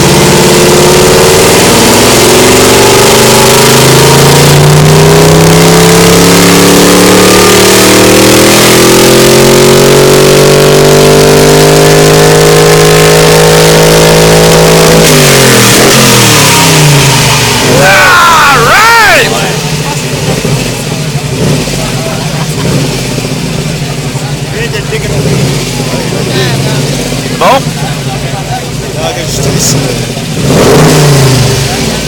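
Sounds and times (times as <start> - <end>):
old car engine revving: 0.0 - 32.0.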